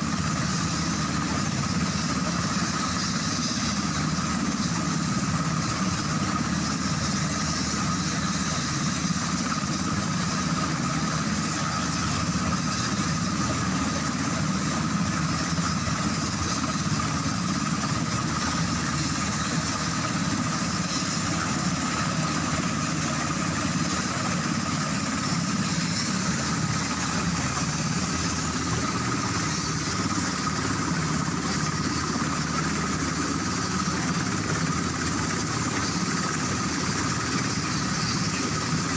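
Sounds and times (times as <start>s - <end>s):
helicopter engines whine and rumble: 0.0s - 38.9s.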